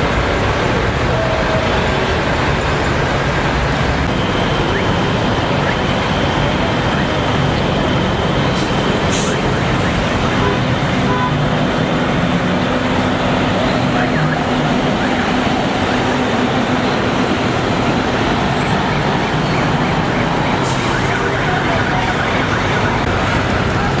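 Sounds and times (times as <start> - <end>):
road traffic engines humming: 0.0 - 24.0.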